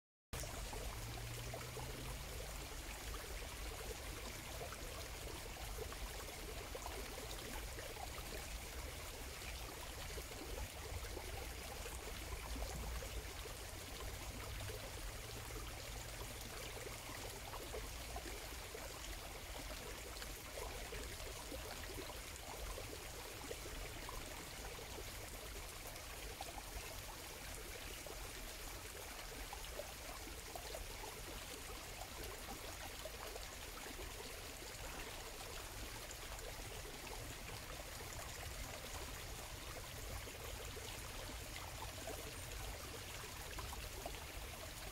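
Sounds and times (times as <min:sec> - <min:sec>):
trickle of running water: 0:00.4 - 0:44.9.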